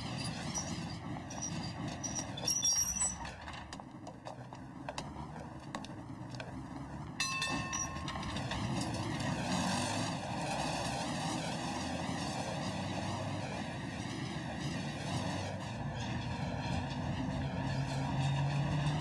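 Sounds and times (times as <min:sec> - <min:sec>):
streetcar running on rails: 0:00.0 - 0:19.0.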